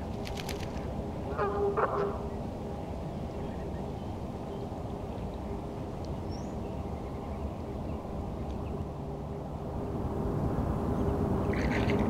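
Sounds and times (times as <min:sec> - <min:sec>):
distant engine hum: 0:00.0 - 0:12.0.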